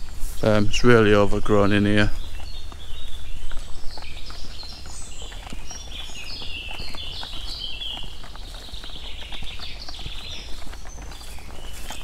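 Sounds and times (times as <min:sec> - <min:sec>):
footsteps in crackling undergrowth: 0:00.0 - 0:12.0
small birds singing: 0:00.0 - 0:12.0.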